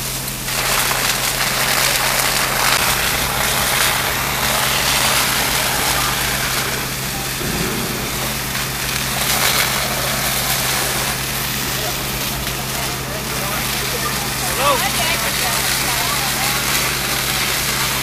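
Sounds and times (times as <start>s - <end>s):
fire engine low hum: 0.0s - 18.0s
rushing hose streams and fire: 0.0s - 18.0s.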